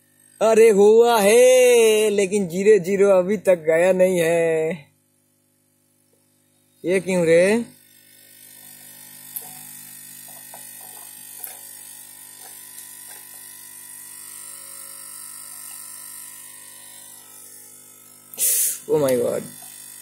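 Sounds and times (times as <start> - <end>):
electrical hum and buzz: 0.0 - 20.0.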